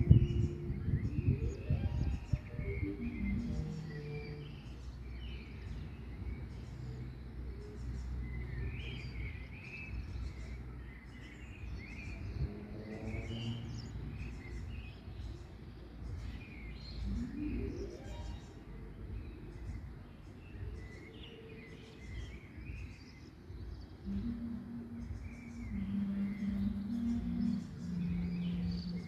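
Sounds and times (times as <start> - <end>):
low outdoor rumble: 0.0 - 29.0
small birds chirping: 0.0 - 29.0.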